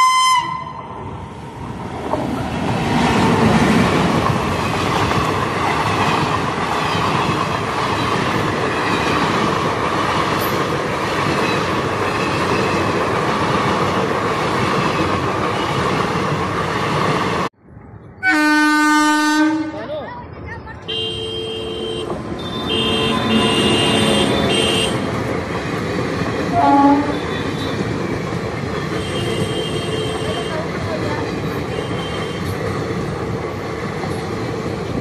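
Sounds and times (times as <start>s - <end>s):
locomotive passing: 0.0s - 21.0s, 21.7s - 35.0s
train wheels on rails: 1.0s - 17.5s, 22.0s - 35.0s.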